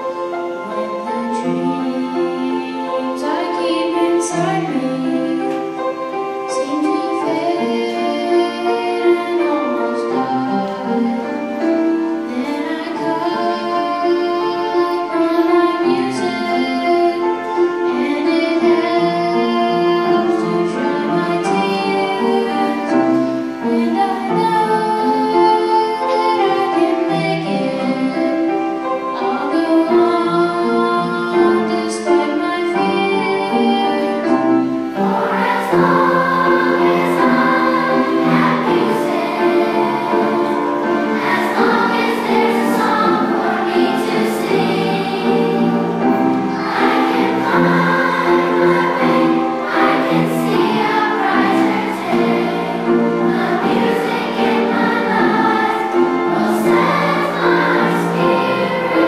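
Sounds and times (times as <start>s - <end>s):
children's chorus singing: 0.0s - 59.0s.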